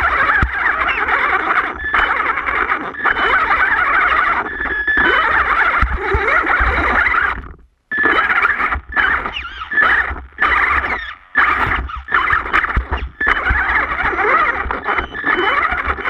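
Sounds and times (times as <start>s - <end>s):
chassis rattling: 0.0s - 16.0s
electric motor and gear whine: 0.0s - 16.0s.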